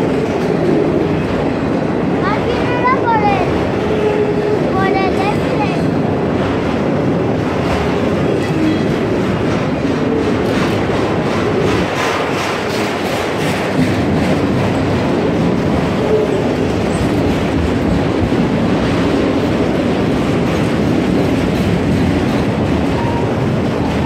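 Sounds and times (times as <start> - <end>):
freight cars rumbling on rails: 0.0 - 24.0.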